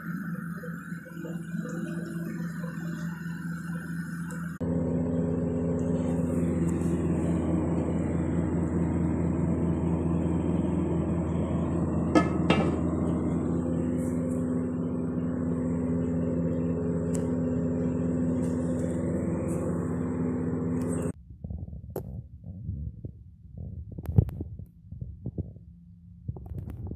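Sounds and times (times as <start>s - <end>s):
mechanical hum: 0.0s - 26.9s.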